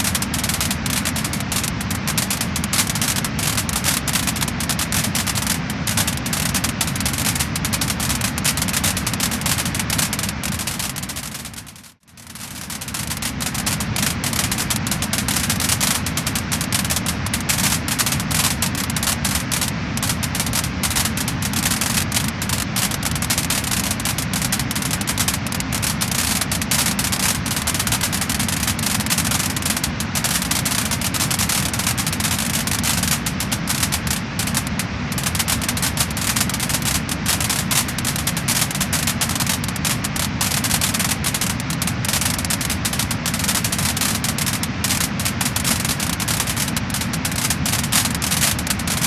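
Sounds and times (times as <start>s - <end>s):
steady rushing hiss: 0.0s - 49.0s
wood fire crackling and popping: 0.0s - 49.0s.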